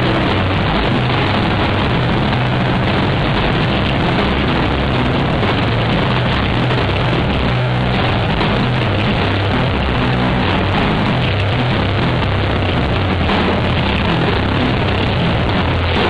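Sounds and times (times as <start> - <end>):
bass line low notes: 0.0 - 16.0.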